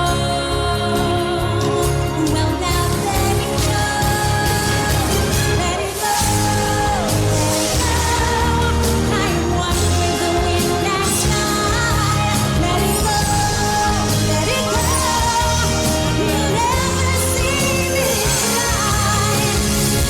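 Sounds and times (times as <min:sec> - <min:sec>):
music with singing: 0:00.0 - 0:20.0
steady bass line: 0:00.0 - 0:20.0.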